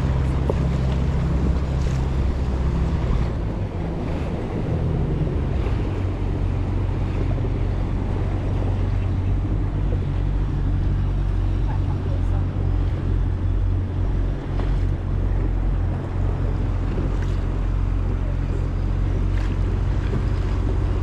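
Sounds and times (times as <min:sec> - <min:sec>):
small boat motor running: 0:00.0 - 0:21.0
water washing against hull: 0:00.0 - 0:21.0
wind buffeting microphone: 0:00.0 - 0:21.0.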